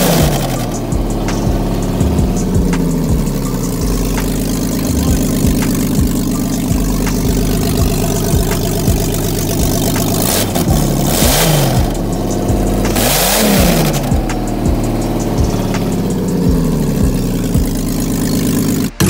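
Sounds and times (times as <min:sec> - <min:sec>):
electronic house music: 0:00.0 - 0:19.0
kick-drum beat: 0:00.0 - 0:19.0.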